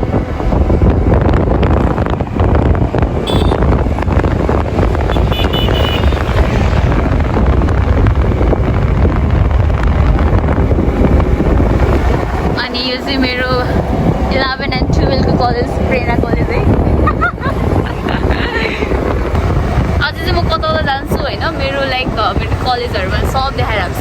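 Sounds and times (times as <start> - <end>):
road traffic noise: 0.0 - 24.0
wind buffeting microphone: 0.0 - 24.0.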